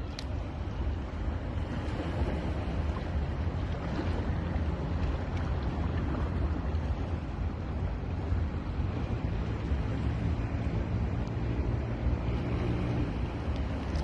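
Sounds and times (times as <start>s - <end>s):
sea surf washing on beach: 0.0s - 14.0s
wind rumbling on microphone: 0.0s - 14.0s.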